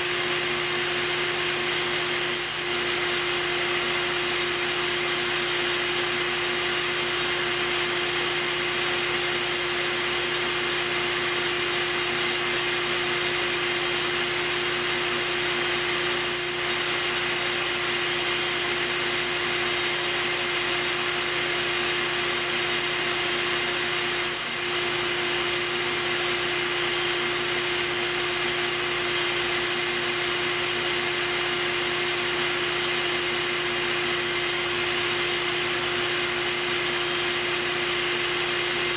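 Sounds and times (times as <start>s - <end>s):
portable generator running: 0.0s - 38.9s
vacuum humming: 0.0s - 38.9s.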